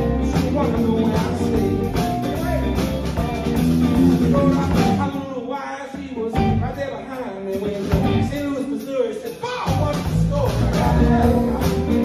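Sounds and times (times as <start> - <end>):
electric guitars: 0.0 - 5.3, 6.2 - 8.6, 9.7 - 12.0
bass guitar: 0.0 - 12.0
drum kit: 0.0 - 12.0.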